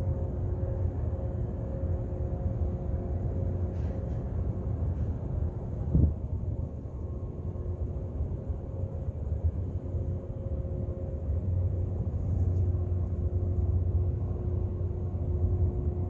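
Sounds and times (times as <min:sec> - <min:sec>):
faint machine hum: 0:00.0 - 0:16.0
harbour low rumble: 0:00.0 - 0:16.0.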